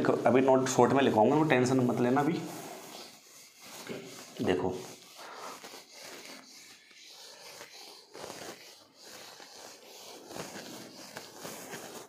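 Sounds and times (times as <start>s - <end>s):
duster rubbing on whiteboard: 0.0s - 12.0s.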